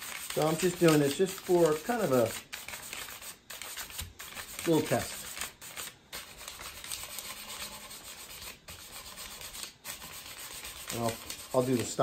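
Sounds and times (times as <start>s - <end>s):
sandpaper rubbing on wood: 0.0s - 12.0s.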